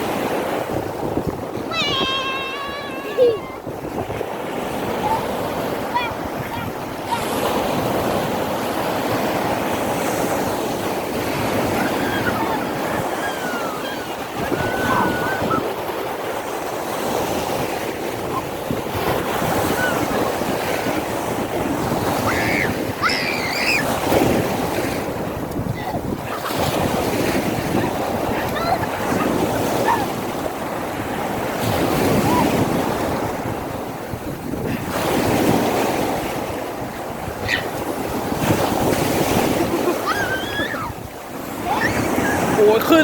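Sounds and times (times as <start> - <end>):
surf washing onto beach: 0.0 - 43.0
wind buffeting microphone: 0.0 - 43.0.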